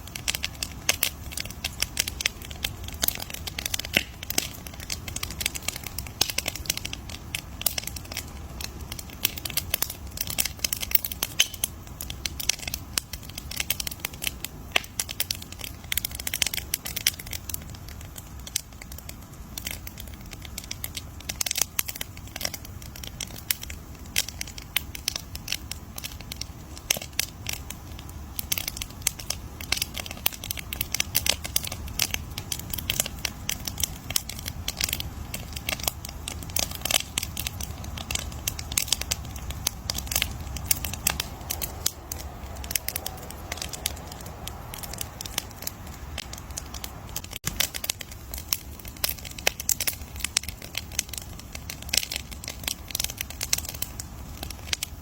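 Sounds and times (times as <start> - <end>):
low steady rumble: 0.0 - 55.0
wood fire crackling: 0.0 - 55.0.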